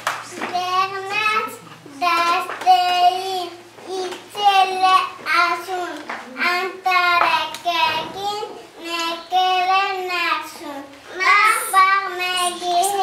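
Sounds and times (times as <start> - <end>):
young child singing: 0.3 - 13.0.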